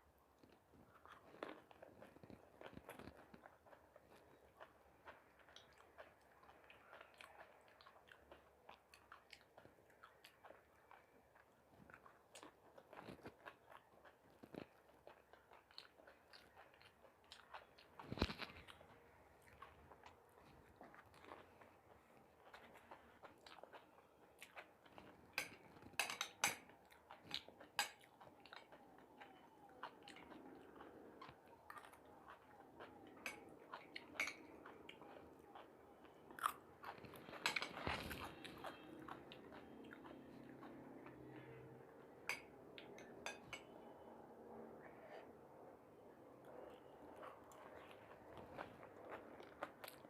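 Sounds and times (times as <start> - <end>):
person crunching and chewing food: 0.1 - 50.0.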